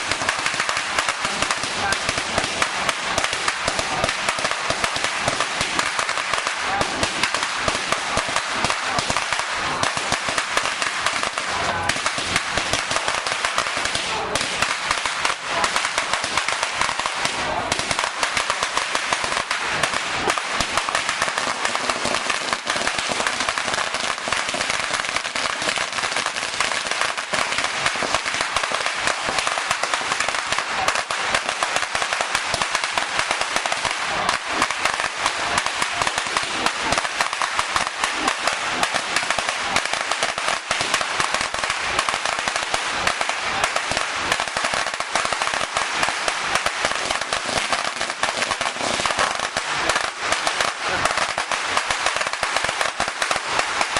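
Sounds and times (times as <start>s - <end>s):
firecrackers crackling: 0.0s - 53.9s.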